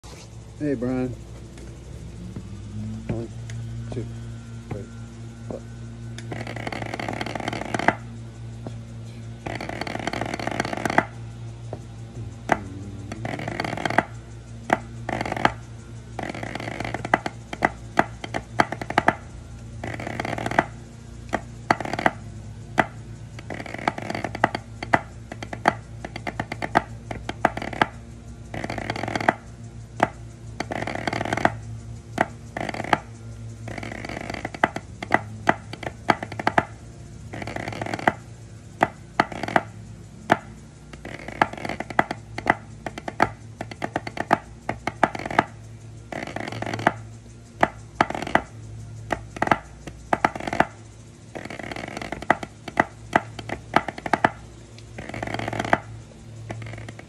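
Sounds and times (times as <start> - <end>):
drumsticks tapping practice pad: 4.6 - 8.8, 9.4 - 57.0.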